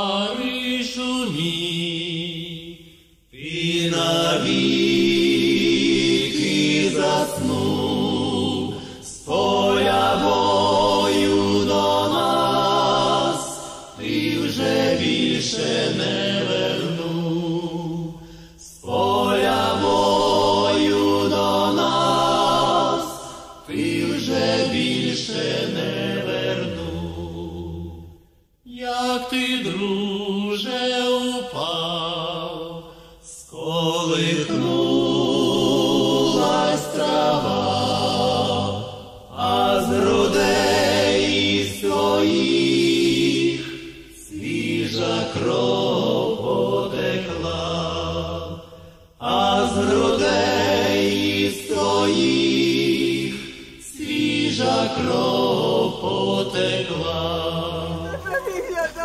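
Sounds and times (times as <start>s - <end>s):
solemn choir singing: 0.0s - 59.0s.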